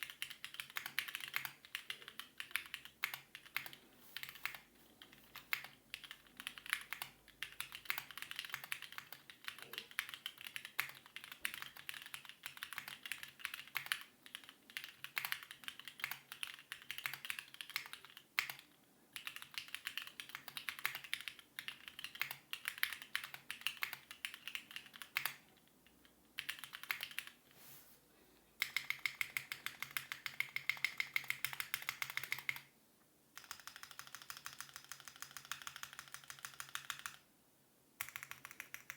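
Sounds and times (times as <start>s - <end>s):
mechanical keyboard typing: 0.0s - 27.4s, 28.6s - 32.7s, 33.4s - 37.2s, 38.0s - 38.9s.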